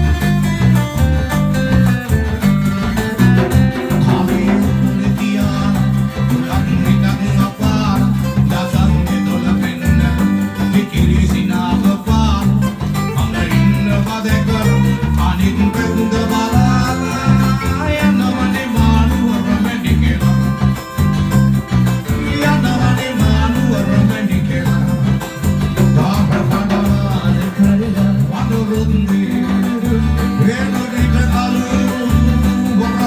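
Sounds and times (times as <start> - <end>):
electric bass guitar: 0.0 - 33.0
hand drum: 0.0 - 33.0
strummed acoustic guitars: 0.0 - 33.0
men singing: 3.1 - 21.0, 22.0 - 33.0.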